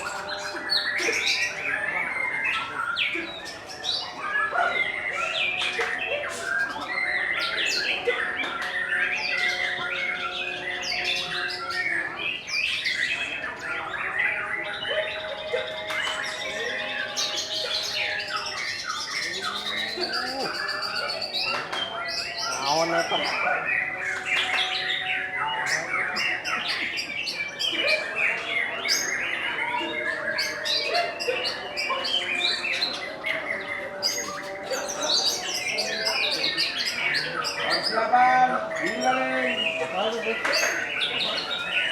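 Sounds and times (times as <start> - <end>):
many songbirds chirping and trilling: 0.0 - 41.9.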